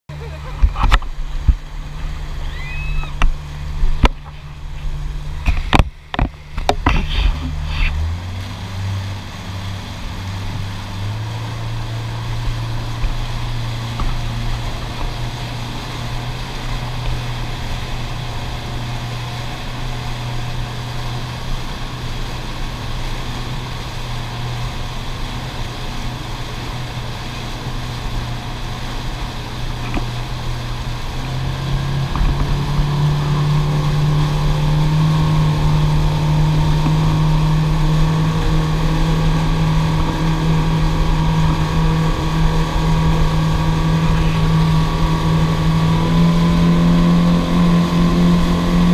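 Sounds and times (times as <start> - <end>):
outboard motor running: 0.1 - 48.9
water rushing in wake: 0.1 - 48.9.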